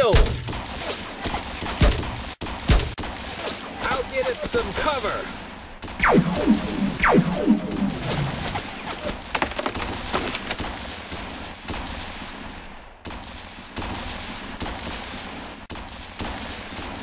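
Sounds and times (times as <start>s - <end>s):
gunshots: 0.0s - 17.0s.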